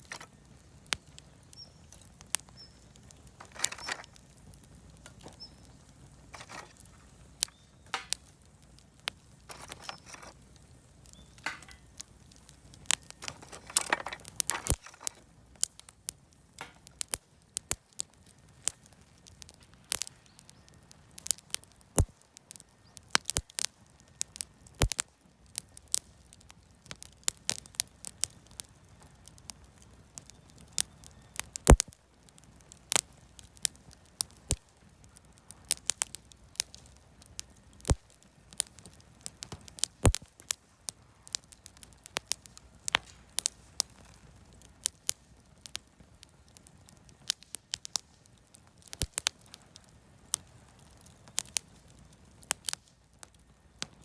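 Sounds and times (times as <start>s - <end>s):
campfire crackling: 0.0s - 54.0s
fire hissing flares: 0.0s - 54.0s.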